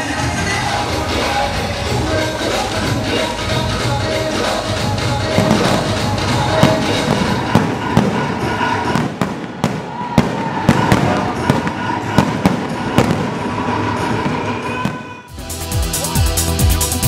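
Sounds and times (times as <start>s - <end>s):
fireworks bangs: 0.8s - 15.3s.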